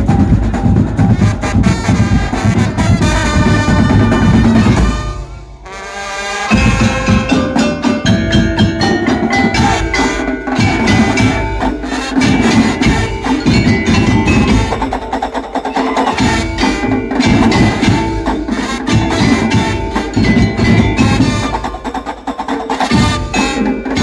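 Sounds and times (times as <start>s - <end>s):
percussion ensemble playing: 0.0s - 24.0s.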